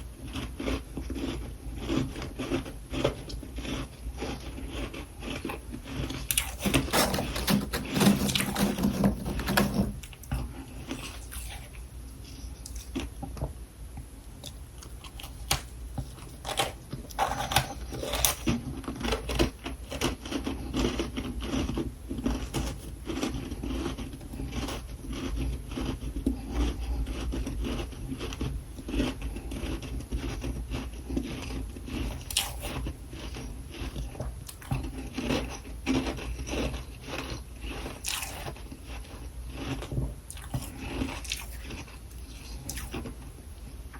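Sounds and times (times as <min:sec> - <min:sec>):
chewing crunches: 0:00.0 - 0:13.4, 0:14.4 - 0:43.2.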